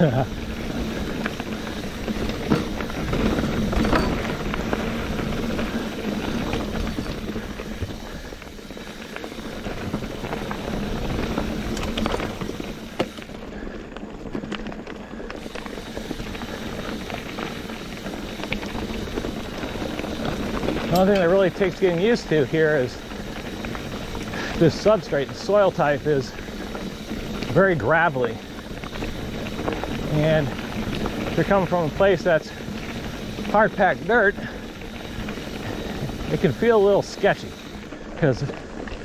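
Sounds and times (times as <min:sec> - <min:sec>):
bike rattling over stones: 0:00.0 - 0:39.0
tyres rolling on gravel: 0:00.0 - 0:39.0.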